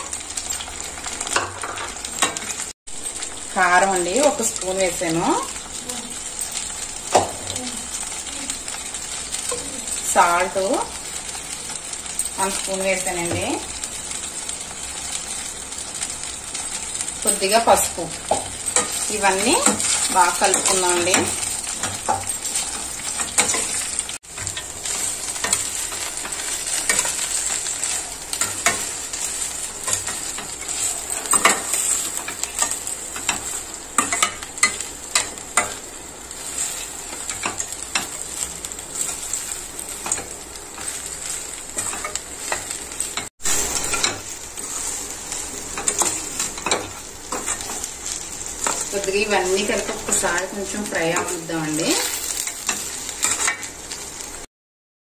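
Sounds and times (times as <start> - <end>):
hot oil sizzling: 0.0 - 54.5.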